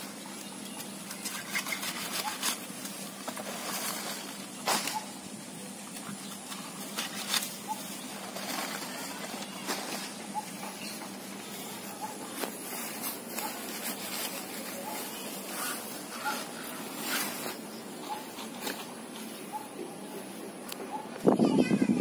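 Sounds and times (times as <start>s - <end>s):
leaves rustling: 0.0s - 22.0s.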